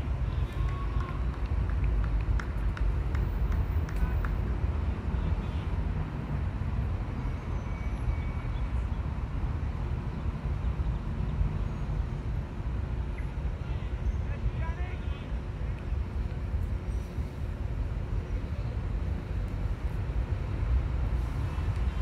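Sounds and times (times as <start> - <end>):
low outdoor rumble: 0.0 - 7.0, 9.6 - 22.0.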